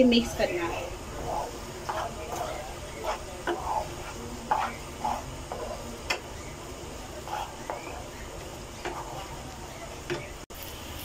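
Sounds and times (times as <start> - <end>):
spatula scraping frying pan: 0.0 - 10.4
spatula tapping pan: 0.0 - 10.4.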